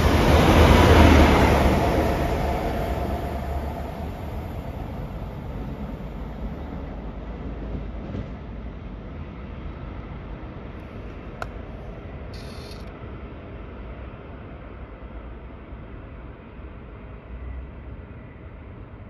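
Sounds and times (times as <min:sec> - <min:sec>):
diesel train rumbling: 0:00.0 - 0:19.0.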